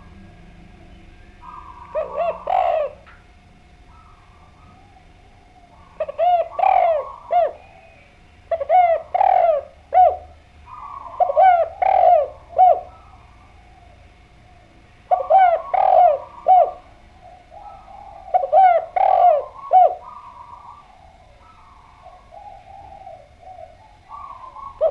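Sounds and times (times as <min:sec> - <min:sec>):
dove cooing: 0:00.0 - 0:24.9.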